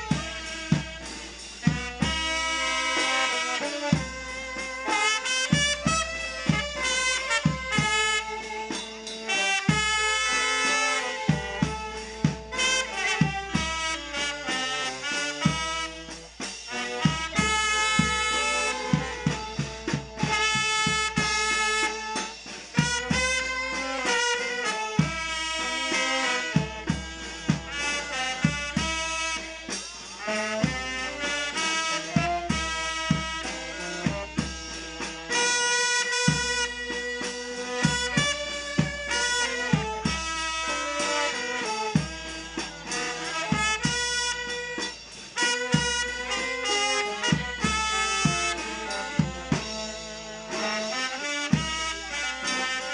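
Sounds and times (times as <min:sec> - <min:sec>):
brass band playing melody: 0:00.0 - 0:52.9
steady drum beat: 0:00.0 - 0:52.9.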